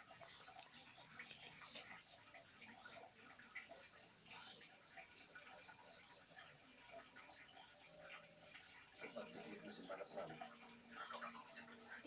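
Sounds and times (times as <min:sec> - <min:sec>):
light ticks and rustles: 0:00.0 - 0:12.0.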